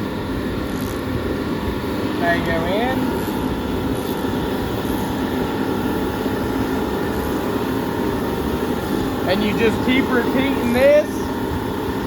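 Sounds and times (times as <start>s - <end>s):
machine noise with faint hum: 0.0s - 12.0s.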